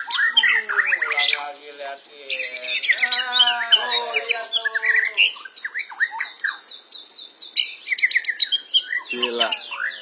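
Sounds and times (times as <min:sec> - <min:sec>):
bird song whistles and chirps: 0:00.0 - 0:01.4, 0:02.2 - 0:10.0.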